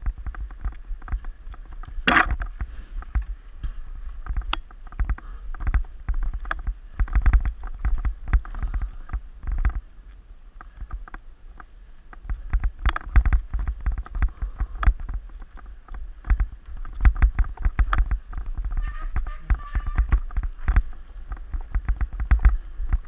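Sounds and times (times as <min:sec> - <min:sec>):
mountain bike rattling over rocks: 0:00.0 - 0:09.9, 0:10.6 - 0:23.0.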